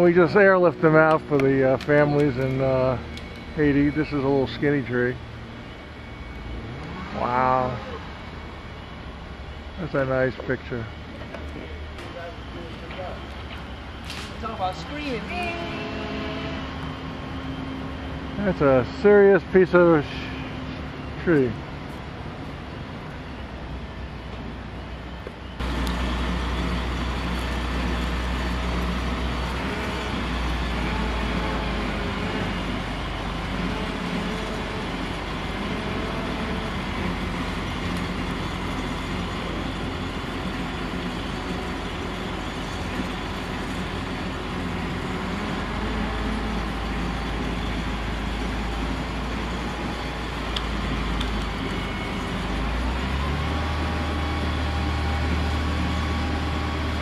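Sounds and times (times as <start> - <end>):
crane diesel engine running: 0.0 - 57.0.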